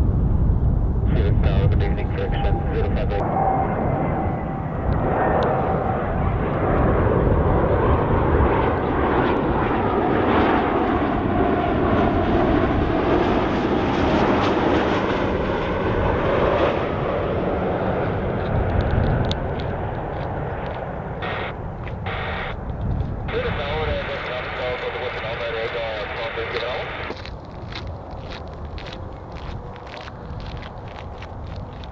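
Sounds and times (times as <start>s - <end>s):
jet airliner passing: 0.0s - 31.9s.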